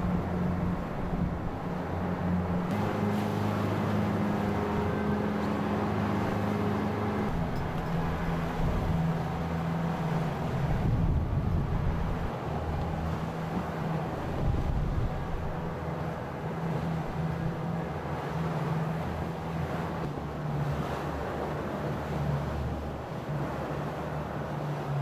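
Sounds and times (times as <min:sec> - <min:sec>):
choppy water: 0:00.0 - 0:25.0
motorboat engine drone: 0:00.0 - 0:25.0.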